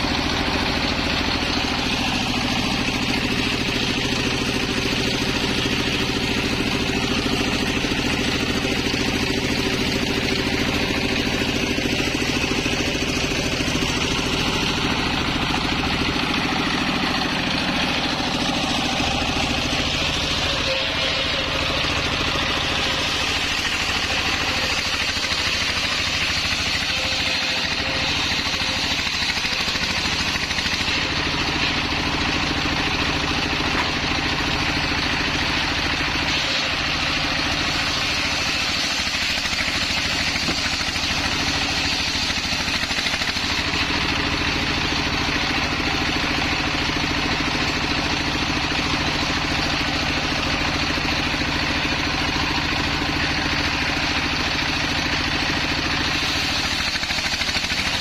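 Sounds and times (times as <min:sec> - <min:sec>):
circular saw cutting log: 0:00.0 - 0:58.0
diesel engine running: 0:00.0 - 0:58.0.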